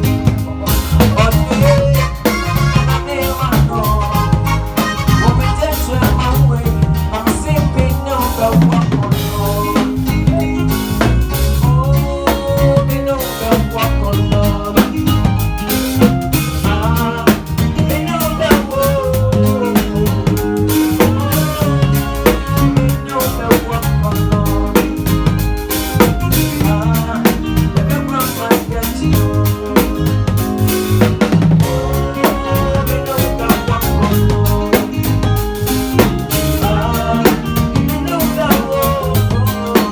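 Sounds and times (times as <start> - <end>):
bass line: 0.0 - 39.9
drum kit beat: 0.0 - 39.9
live band playing: 0.0 - 39.9.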